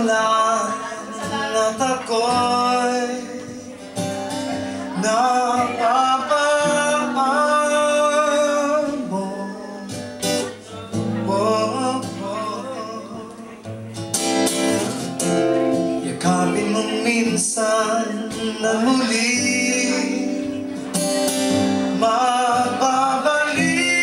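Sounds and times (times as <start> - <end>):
man singing a slow ballad: 0.0 - 13.7, 15.7 - 24.0
acoustic guitar: 0.0 - 24.0.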